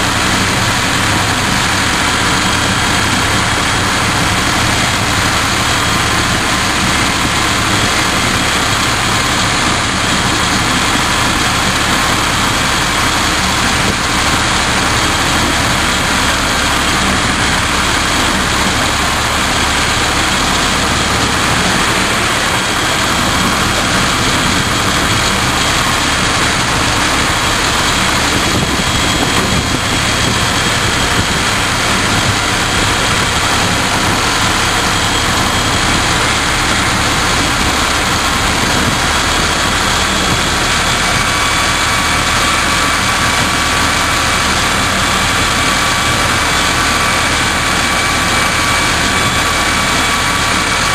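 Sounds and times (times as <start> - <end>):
miniature locomotive engine running: 0.0 - 50.9
running train noise: 0.0 - 50.9.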